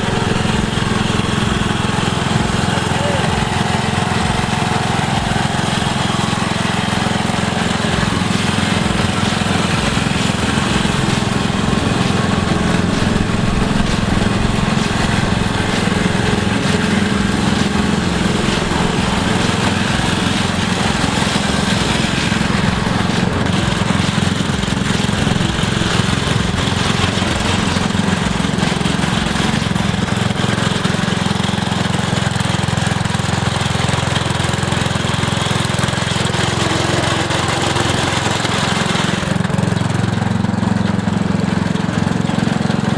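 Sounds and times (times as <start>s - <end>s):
lawn tractor engine running: 0.0s - 42.9s.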